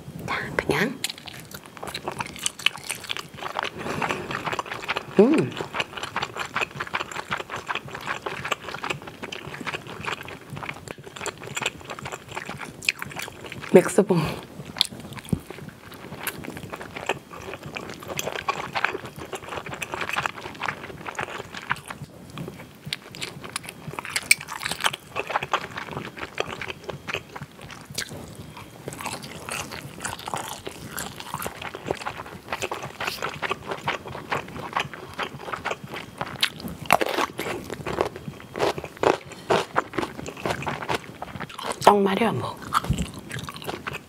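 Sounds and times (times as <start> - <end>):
biting and chewing: 1.0 - 13.7, 14.6 - 41.9, 42.6 - 44.0.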